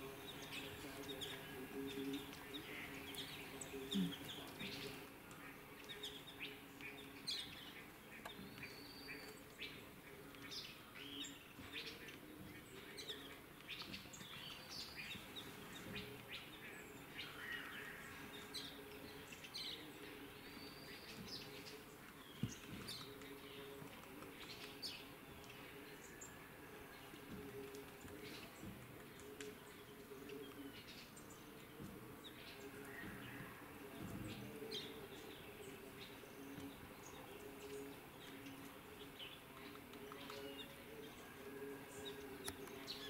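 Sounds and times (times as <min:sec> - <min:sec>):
birds chirping in a flock: 0:00.0 - 0:43.0.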